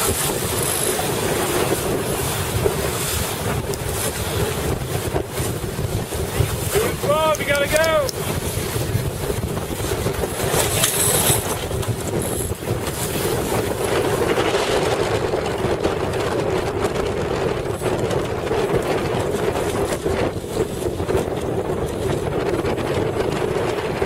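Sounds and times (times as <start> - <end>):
motorboat engine running: 0.0 - 24.0
water rushing past hull: 0.0 - 24.0
wind buffeting microphone: 0.0 - 24.0.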